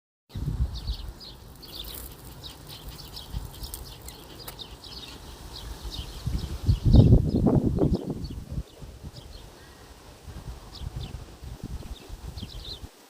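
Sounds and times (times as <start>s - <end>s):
birds chirping: 0.3s - 13.0s.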